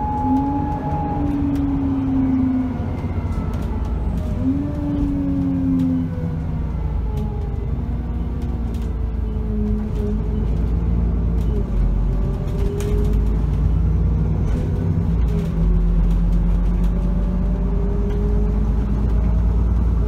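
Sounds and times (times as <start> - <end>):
bus engine rumbling: 0.0 - 20.0
drivetrain whine: 0.0 - 20.0.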